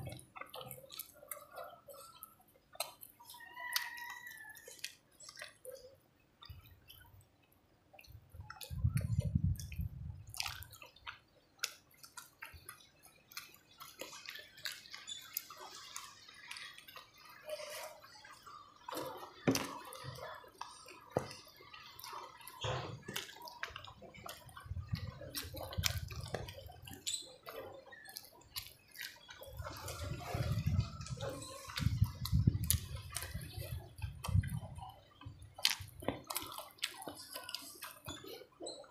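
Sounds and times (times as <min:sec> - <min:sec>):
lip smacks: 0:00.0 - 0:07.1, 0:08.0 - 0:17.3, 0:18.4 - 0:38.9
small sticky clicks: 0:00.0 - 0:17.4, 0:18.4 - 0:30.1, 0:30.7 - 0:38.9
chewing: 0:00.0 - 0:38.9
fingers picking through wet food: 0:00.0 - 0:38.9.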